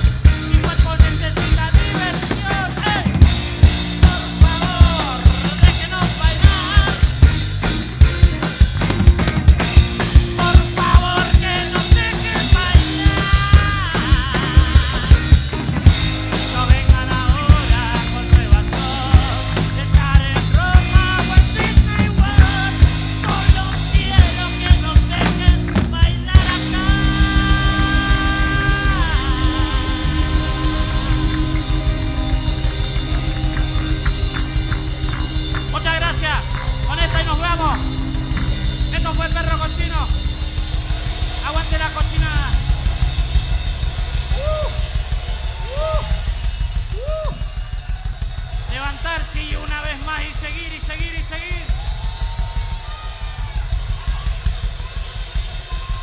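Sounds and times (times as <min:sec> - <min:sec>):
bending lead line: 0:00.0 - 0:47.6
drum kit hard beat: 0:00.0 - 0:56.0
rock band playing: 0:00.0 - 0:56.0.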